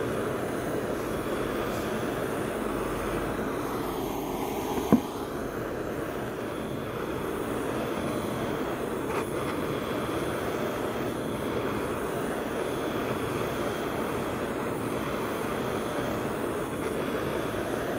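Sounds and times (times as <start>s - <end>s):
gas torch flame rushing: 0.0s - 17.9s.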